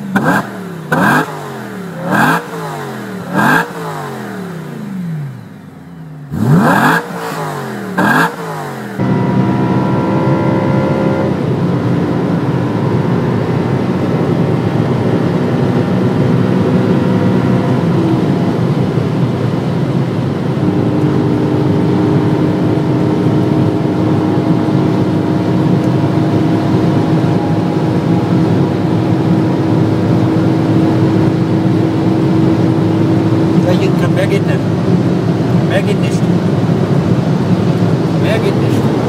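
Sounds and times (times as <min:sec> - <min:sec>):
car engine at high speed: 0:00.0 - 0:39.0
road noise: 0:00.0 - 0:39.0.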